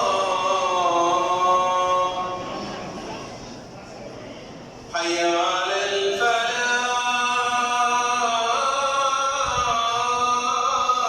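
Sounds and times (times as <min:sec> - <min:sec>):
person chanting prayer: 0:00.0 - 0:02.8, 0:04.9 - 0:11.0.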